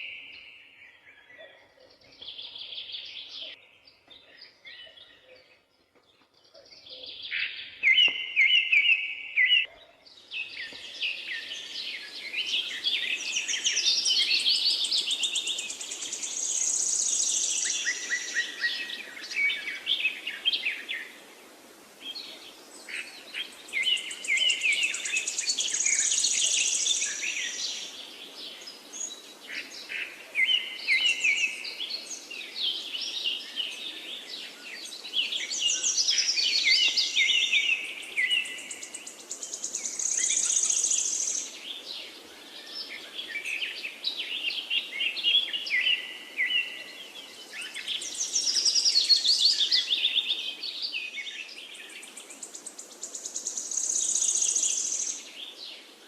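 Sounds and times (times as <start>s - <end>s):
birds singing and chirping: 0.0s - 56.0s
steady background hiss: 7.0s - 56.0s.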